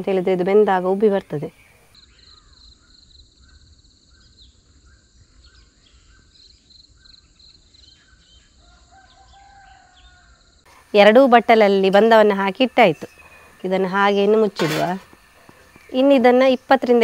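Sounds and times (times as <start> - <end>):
birdsong trills and chirps: 0.0 - 10.7, 11.7 - 17.0.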